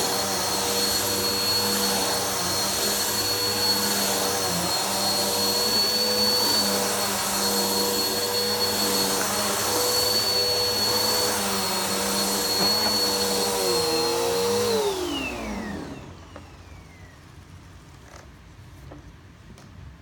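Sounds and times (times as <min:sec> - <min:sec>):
vacuum cleaner running on carpet: 0:00.0 - 0:17.5
vacuum motor spinning down: 0:00.0 - 0:17.5.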